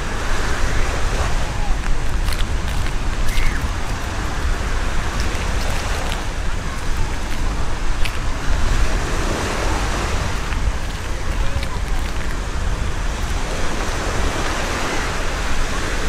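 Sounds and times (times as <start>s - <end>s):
sea surf on beach: 0.0s - 16.0s
wind rumbling on microphone: 0.0s - 16.0s.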